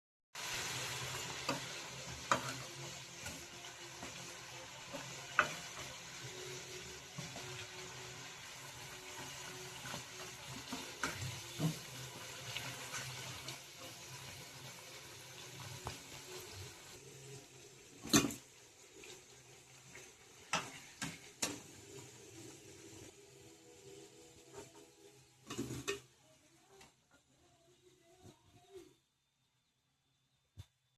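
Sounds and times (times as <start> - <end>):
food sizzling in a hot pan: 0.4 - 26.6.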